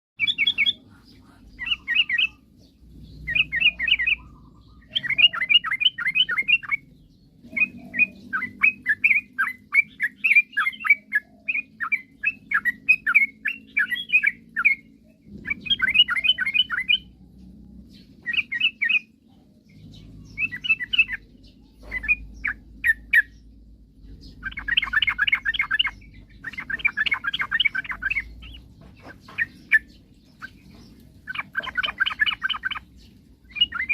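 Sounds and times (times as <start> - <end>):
bird singing chattering notes: 0.2 - 33.9.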